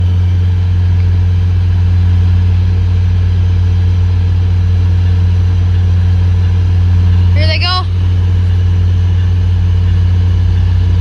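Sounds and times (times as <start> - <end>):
diesel locomotive engine humming: 0.0 - 11.0.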